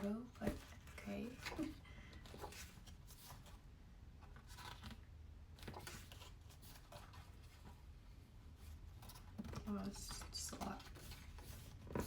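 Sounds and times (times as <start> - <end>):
pages turning: 0.4 - 3.6, 4.3 - 7.8, 8.6 - 12.0.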